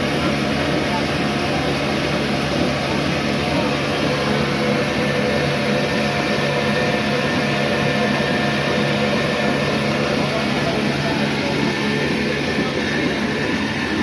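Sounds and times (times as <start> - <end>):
diesel engine running: 0.0 - 14.0
mill grinding: 0.0 - 14.0.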